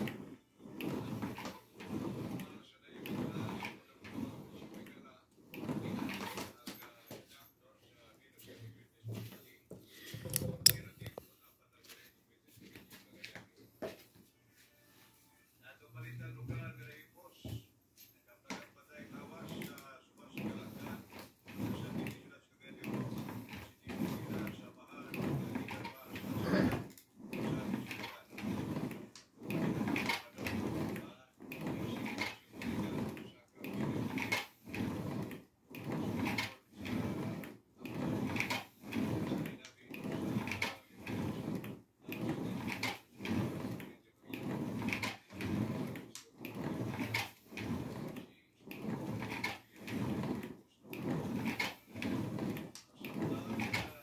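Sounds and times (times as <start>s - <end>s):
ab wheel rolling on tile floor: 0.0s - 54.0s.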